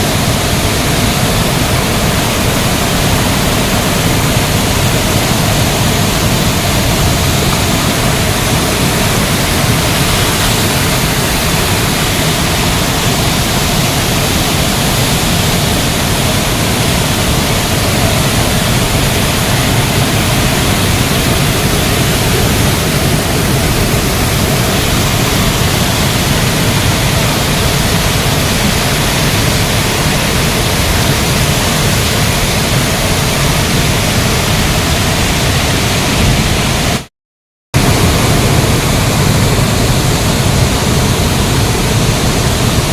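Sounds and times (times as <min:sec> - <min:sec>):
waterfall rushing: 0:00.0 - 0:37.1, 0:37.8 - 0:42.9.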